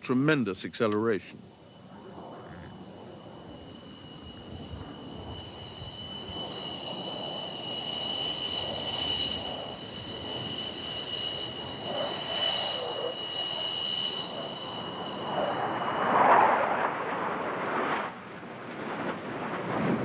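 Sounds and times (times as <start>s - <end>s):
jet fighters flying over: 0.0s - 20.0s.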